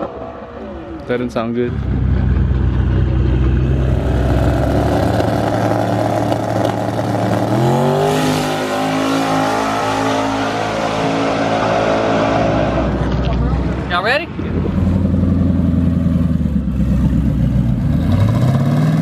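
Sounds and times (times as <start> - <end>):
car engine revving: 1.4 - 19.0.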